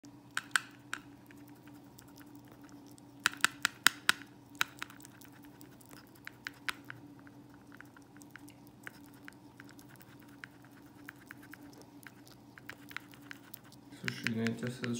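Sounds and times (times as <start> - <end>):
faint steady hum: 0.0 - 14.9
animal licking and chewing plastic: 0.2 - 14.9.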